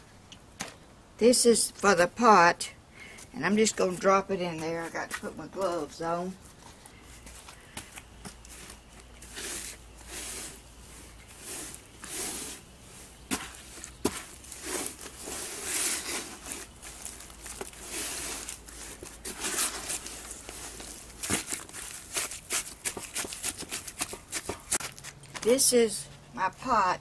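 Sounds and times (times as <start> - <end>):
cloth squishing in wet cement: 3.2 - 25.9.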